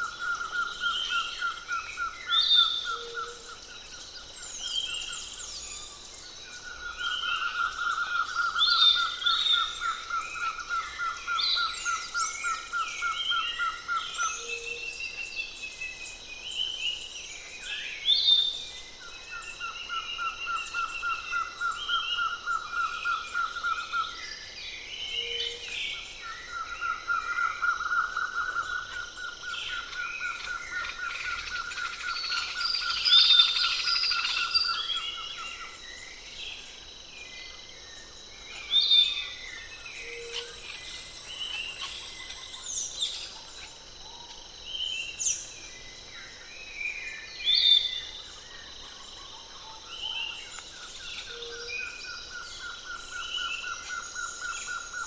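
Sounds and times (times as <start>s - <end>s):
forest birds chirping: 0.0s - 55.0s.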